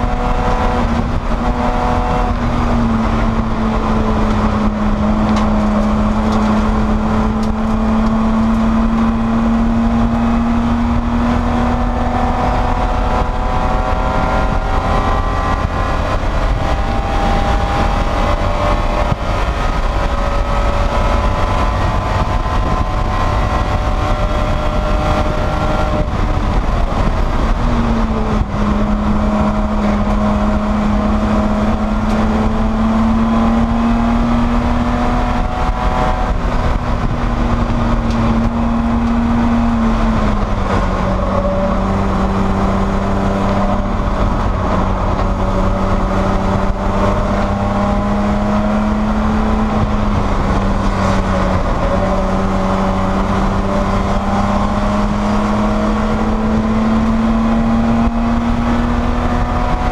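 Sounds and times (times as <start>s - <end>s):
racing car engine under load: 0.0s - 59.9s.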